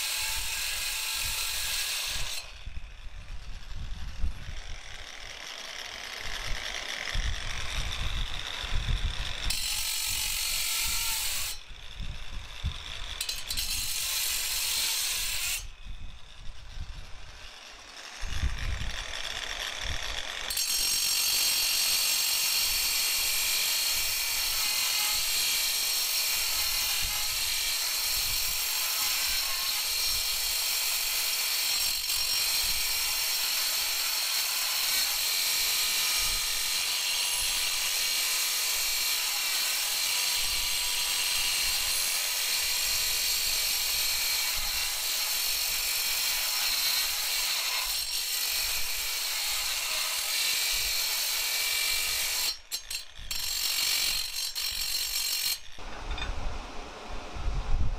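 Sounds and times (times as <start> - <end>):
angle grinder grinding steel: 0.0 - 56.4.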